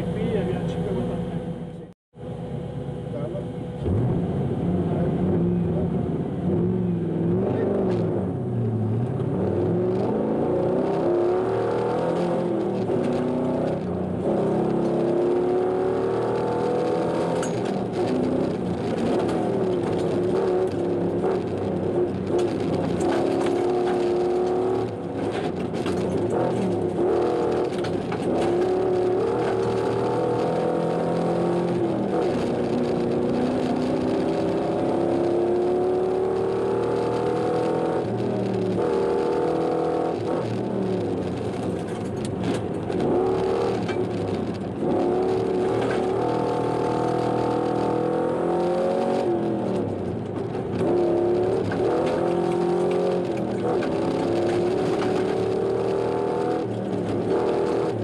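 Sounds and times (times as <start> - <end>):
car engine revving: 3.0 - 58.0.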